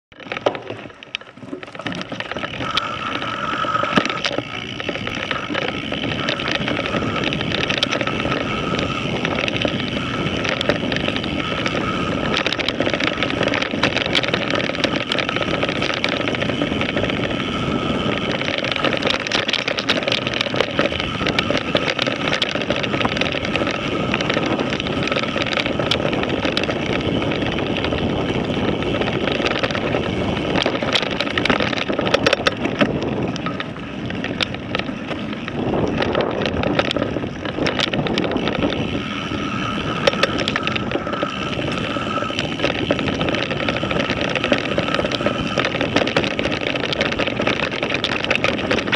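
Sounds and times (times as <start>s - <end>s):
bike rattles and clicks: 0.0s - 48.9s
knobby tyres rushing on dirt: 0.0s - 48.9s
thin steady whine: 0.1s - 48.9s
wind on microphone: 0.1s - 48.9s.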